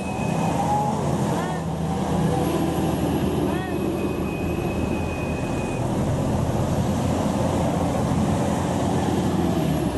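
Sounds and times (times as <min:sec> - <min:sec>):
bus engine running: 0:00.0 - 0:09.9
road noise: 0:00.0 - 0:09.9.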